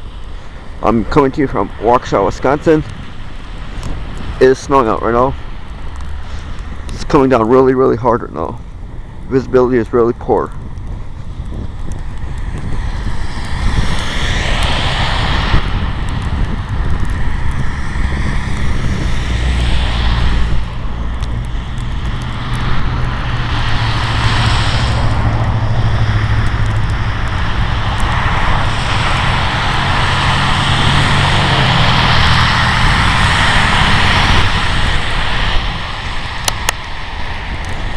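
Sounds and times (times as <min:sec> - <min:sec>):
gusting snowstorm wind: 0:00.0 - 0:37.9
steady low rumble: 0:00.0 - 0:37.9.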